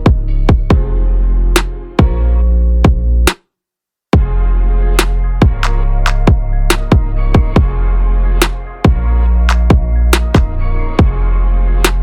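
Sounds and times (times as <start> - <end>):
electronic music with heavy bass: 0.0 - 3.4, 4.2 - 12.0.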